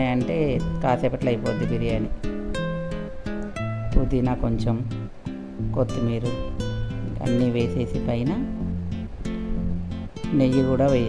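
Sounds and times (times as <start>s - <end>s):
acoustic guitar plucking: 0.0s - 11.0s.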